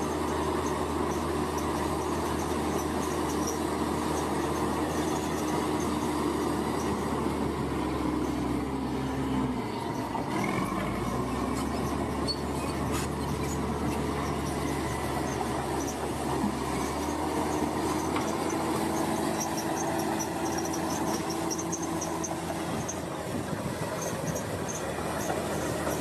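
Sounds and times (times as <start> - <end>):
earthmoving machine engine running: 0.0 - 26.0.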